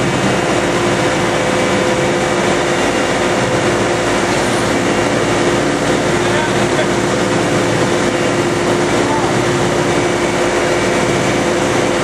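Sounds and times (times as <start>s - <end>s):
boat thruster running: 0.0s - 12.0s
churning water: 0.0s - 12.0s.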